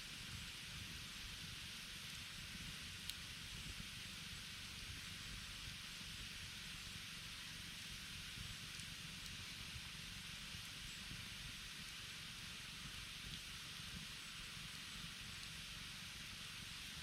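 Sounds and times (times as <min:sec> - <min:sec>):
campfire hissing and crackling: 0:00.0 - 0:17.0.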